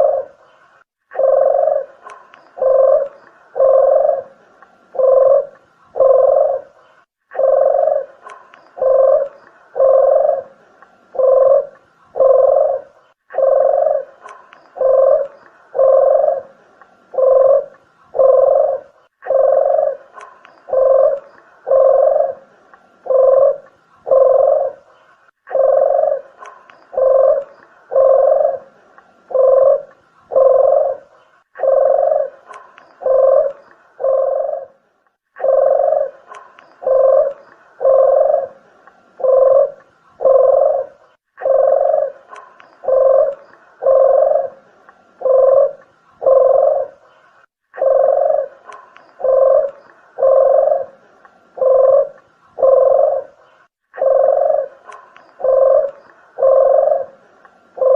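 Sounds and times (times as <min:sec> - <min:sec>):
dove cooing: 0:00.0 - 0:57.9.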